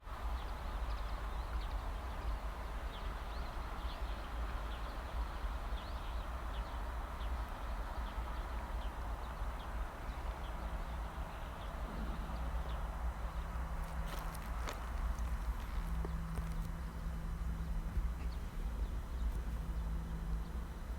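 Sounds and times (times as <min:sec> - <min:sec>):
wind rumble on microphone: 0:00.1 - 0:20.9.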